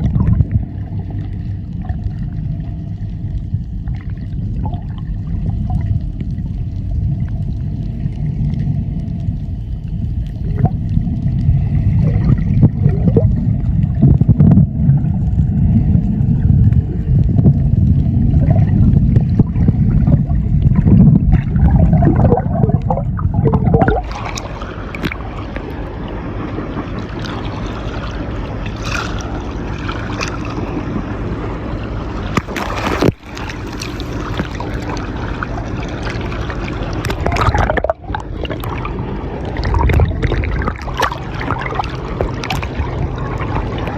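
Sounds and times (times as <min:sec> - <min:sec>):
boat motor rumbling: 0:00.0 - 0:43.9
water rushing against hull: 0:00.0 - 0:43.9.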